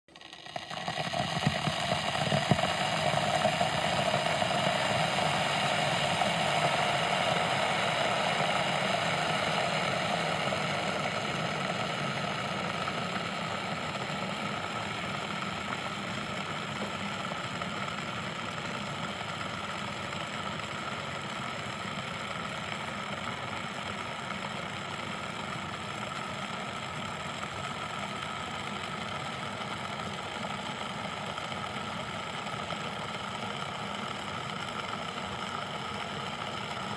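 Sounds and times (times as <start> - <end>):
kettle heating water: 0.1 - 36.9.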